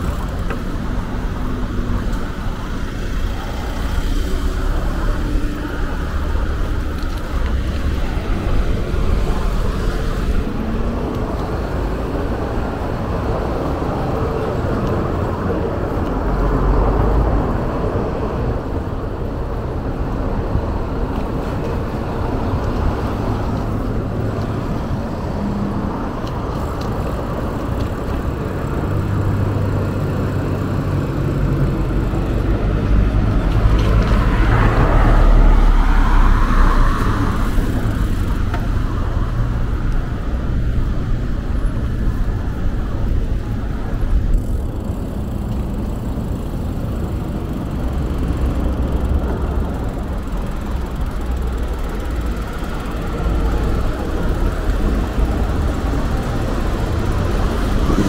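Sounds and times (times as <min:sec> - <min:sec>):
cars passing: 0:00.0 - 0:58.0
vehicle engine low hum: 0:00.0 - 0:58.0.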